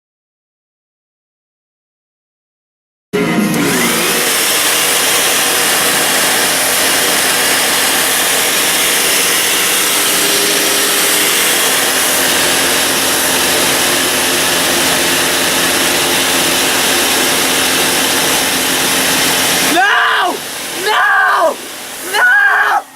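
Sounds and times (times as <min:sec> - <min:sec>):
vacuum cleaner running: 0:03.2 - 0:22.9.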